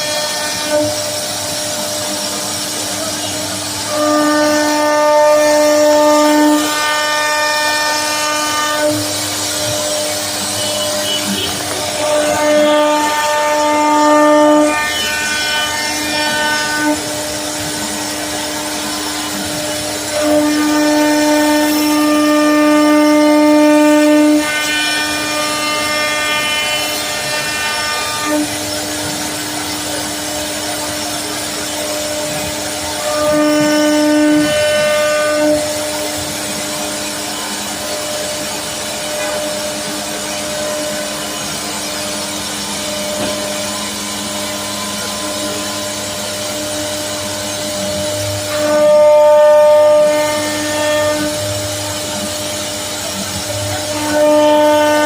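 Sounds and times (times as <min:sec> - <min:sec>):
machine hum: 0:00.0 - 0:55.0
router spindle whine: 0:00.0 - 0:55.0.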